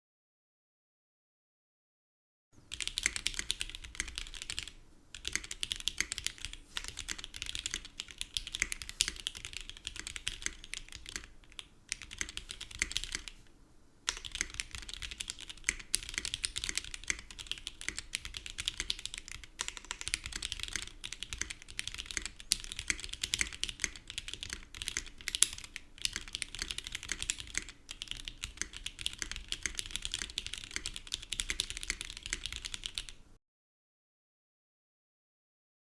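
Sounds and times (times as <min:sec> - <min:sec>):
mechanical keyboard typing clacks: 0:02.7 - 0:13.3, 0:14.1 - 0:33.2.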